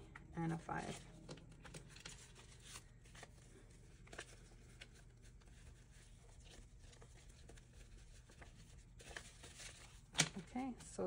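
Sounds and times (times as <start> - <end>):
paper banknotes being counted: 0.4 - 11.0.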